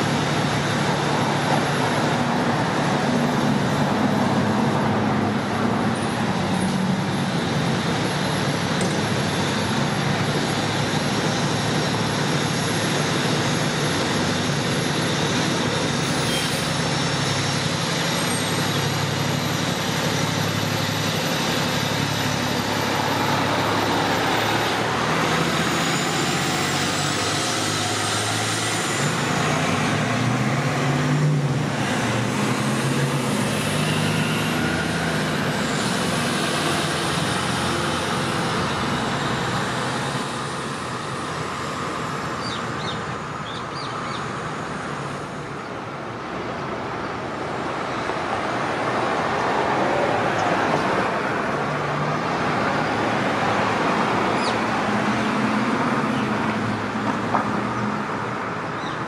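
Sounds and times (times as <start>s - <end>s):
fire engine diesel engine: 0.0s - 59.0s
street traffic: 0.0s - 59.0s.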